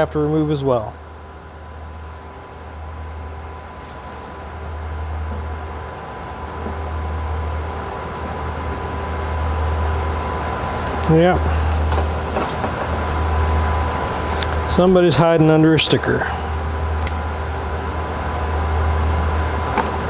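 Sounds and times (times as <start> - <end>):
cooling fans humming: 0.0 - 20.0.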